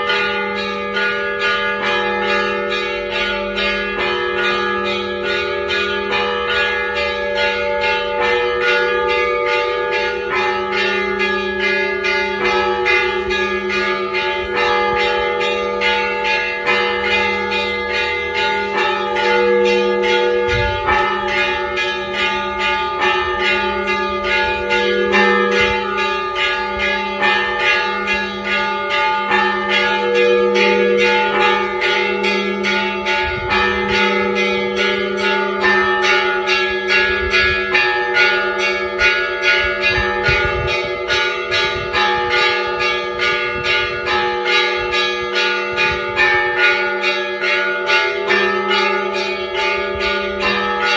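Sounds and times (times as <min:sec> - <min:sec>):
church bells pealing: 0:00.0 - 0:50.9
low hum of large bell: 0:00.0 - 0:50.9.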